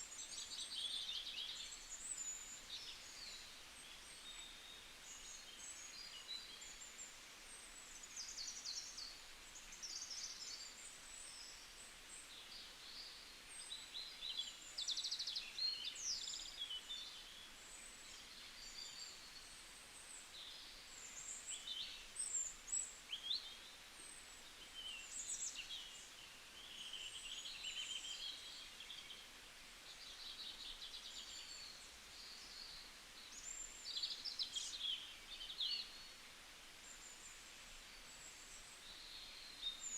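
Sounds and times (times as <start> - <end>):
faint background hiss: 0.0 - 39.9
small birds chirping: 0.0 - 39.9.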